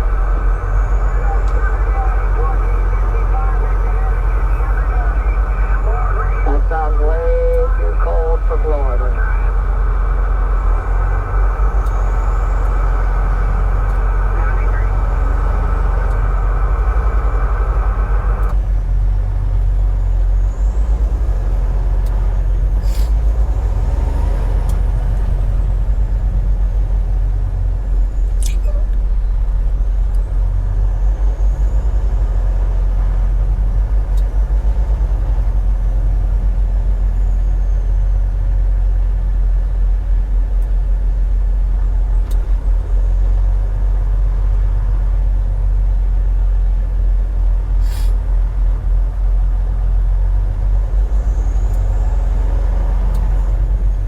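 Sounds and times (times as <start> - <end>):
truck engine rumble and road noise: 0.0 - 54.0.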